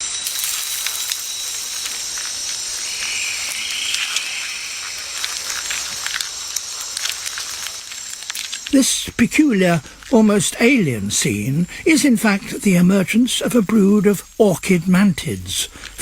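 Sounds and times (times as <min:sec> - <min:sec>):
thin high tones: 0:00.0 - 0:15.7
high-pitched hiss: 0:00.0 - 0:16.0.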